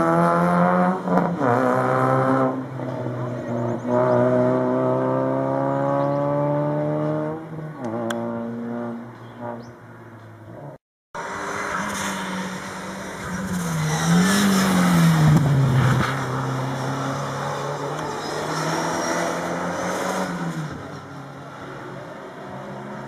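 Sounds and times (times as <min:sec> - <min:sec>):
rally car engine revving: 0:00.0 - 0:09.7, 0:11.2 - 0:20.9.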